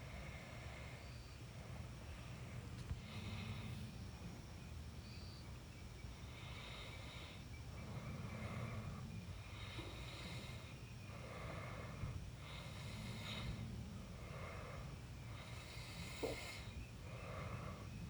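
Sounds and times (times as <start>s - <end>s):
faint insect drone: 0.0s - 18.0s
steady low hum: 0.0s - 18.0s.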